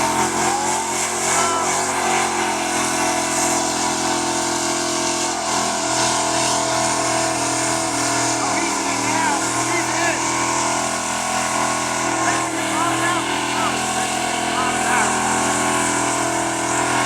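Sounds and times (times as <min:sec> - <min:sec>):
truck engine revving: 0:00.0 - 0:17.0
tyres hissing on pavement: 0:00.0 - 0:17.0.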